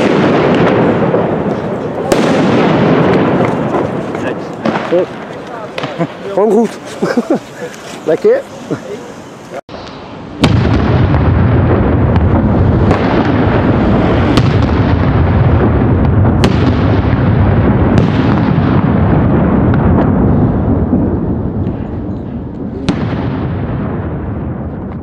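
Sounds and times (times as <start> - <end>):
firecracker fuses burning: 0.0 - 25.0.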